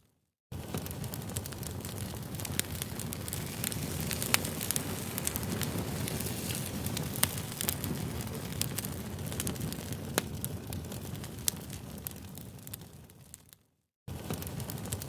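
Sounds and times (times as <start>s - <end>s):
loud fire pops: 0.5s - 15.0s
campfire crackling: 0.6s - 15.0s.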